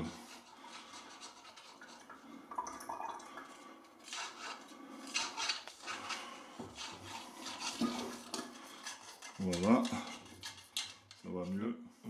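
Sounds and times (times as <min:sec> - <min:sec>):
stick scraping in plastic funnel: 0:00.0 - 0:02.2, 0:04.0 - 0:11.5.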